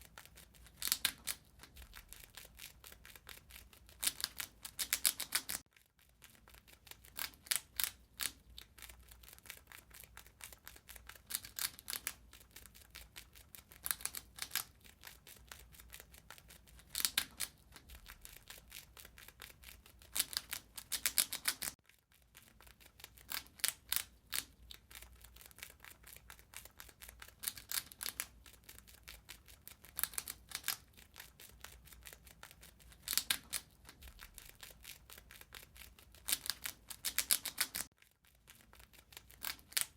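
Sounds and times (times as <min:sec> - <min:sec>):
rat gnawing and crunching: 0:00.0 - 0:39.9.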